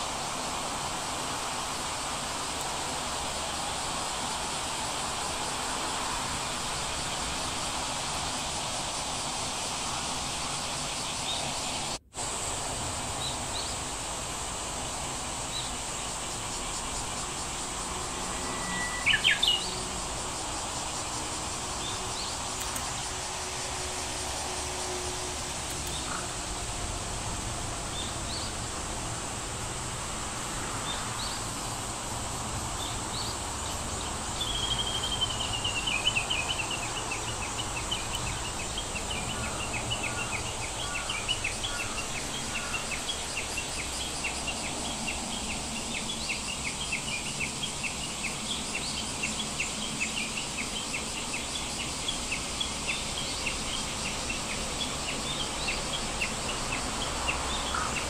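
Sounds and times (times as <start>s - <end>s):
background hiss: 0.0s - 58.0s
birds and insects chirping: 0.0s - 58.0s.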